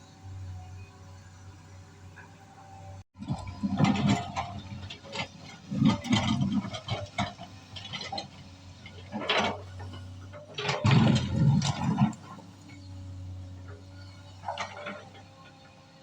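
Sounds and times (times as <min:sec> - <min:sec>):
excavator engine hum: 0:00.0 - 0:16.0
excavator clanks and scrapes: 0:00.1 - 0:16.0.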